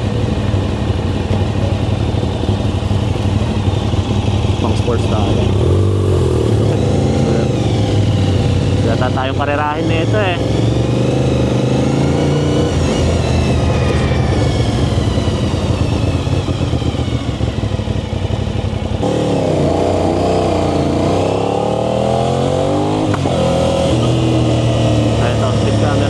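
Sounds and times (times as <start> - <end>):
exhaust crack: 0.0 - 26.0
motorcycle engine: 0.0 - 26.0.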